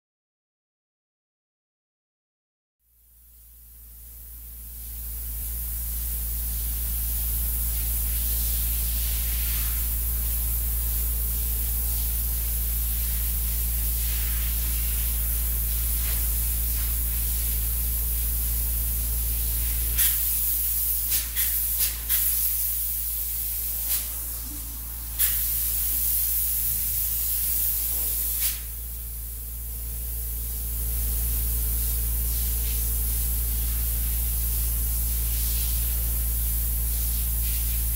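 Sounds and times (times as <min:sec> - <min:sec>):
spray-foam gun hissing: 0:03.3 - 0:37.9.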